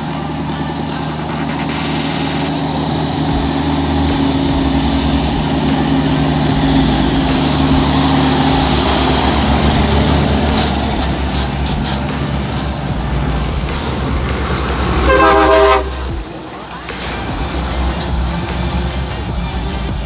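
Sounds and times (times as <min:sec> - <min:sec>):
diesel truck engine: 0:00.0 - 0:20.0.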